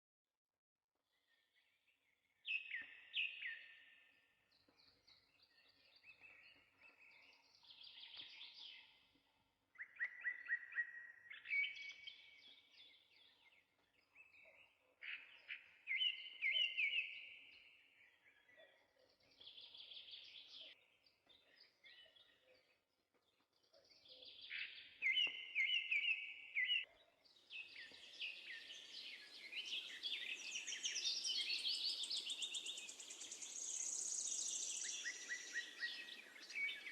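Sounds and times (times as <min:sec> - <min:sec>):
sparrows singing: 0:01.1 - 0:36.9.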